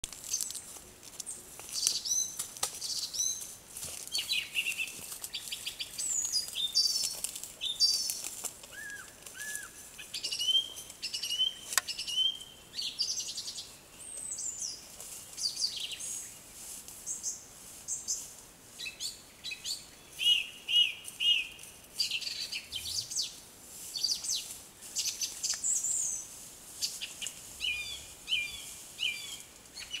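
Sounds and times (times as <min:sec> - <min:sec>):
songbirds singing: 0:01.2 - 0:30.0.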